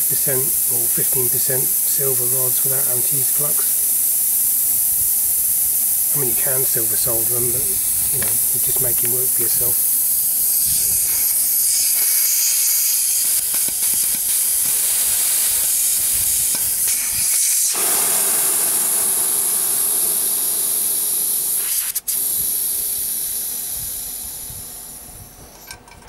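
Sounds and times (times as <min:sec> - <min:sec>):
gas hissing from port: 0:00.0 - 0:25.9.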